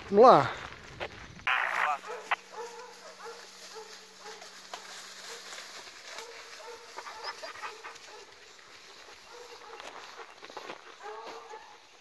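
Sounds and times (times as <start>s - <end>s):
dogs barking: 1.8s - 12.0s.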